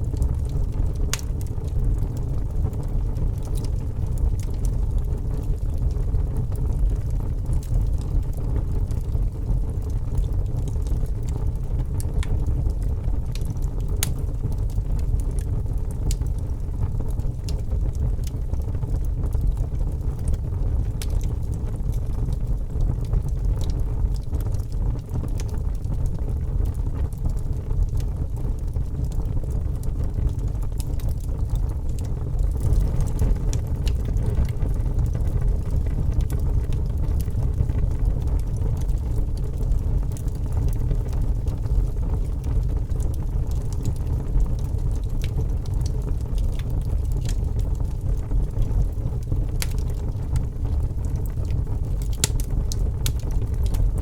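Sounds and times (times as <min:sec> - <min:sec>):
fire crackling and popping: 0:00.0 - 0:54.0
fire rumbling: 0:00.0 - 0:54.0.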